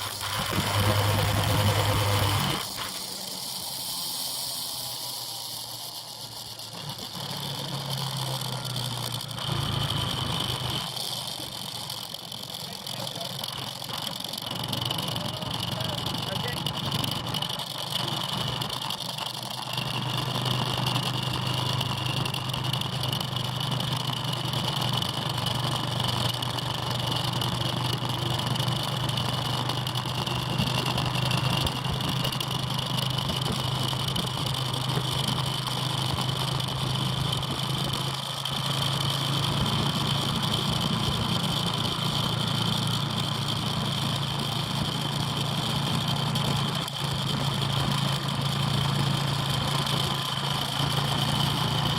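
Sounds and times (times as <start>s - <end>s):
motorbike engine running: 0.0s - 51.9s.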